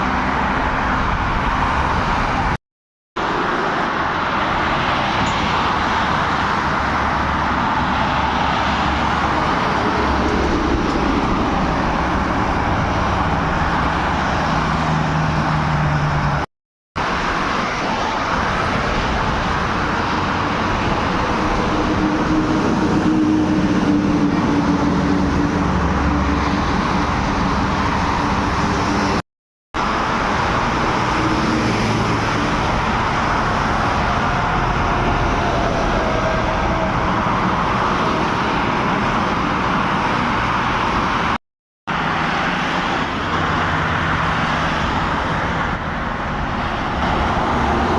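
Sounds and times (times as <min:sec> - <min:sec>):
trucks and cars passing: 0:00.0 - 0:02.6, 0:03.2 - 0:29.2, 0:29.8 - 0:47.9.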